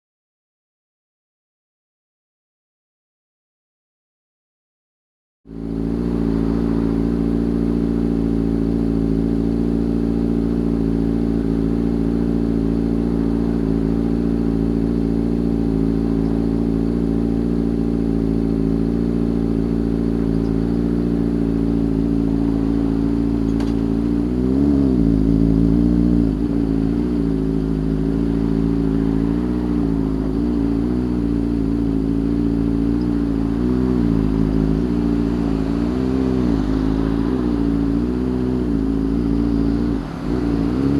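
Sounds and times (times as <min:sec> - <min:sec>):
motorcycle engine running: 0:05.5 - 0:40.9.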